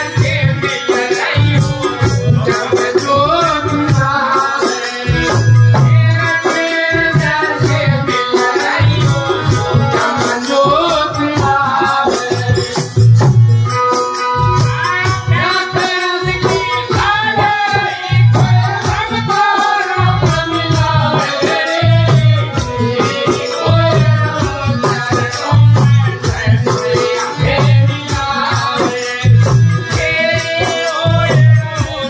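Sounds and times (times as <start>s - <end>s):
hand drum beating: 0.0s - 32.0s
jingling percussion: 0.0s - 32.0s
man singing devotional song: 0.0s - 32.0s.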